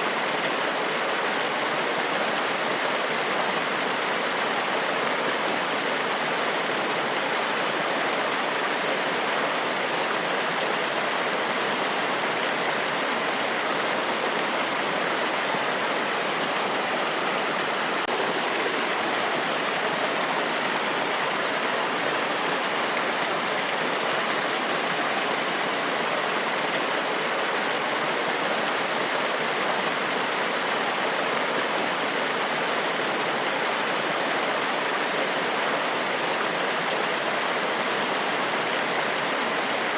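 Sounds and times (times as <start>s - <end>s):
waterfall cascading over rocks: 0.0s - 39.9s.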